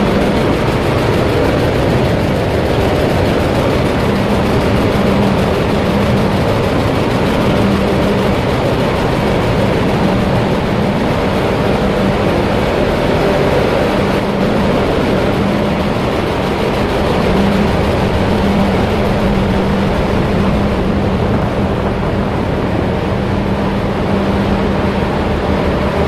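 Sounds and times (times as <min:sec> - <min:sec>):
engine room machinery drone: 0:00.0 - 0:26.0.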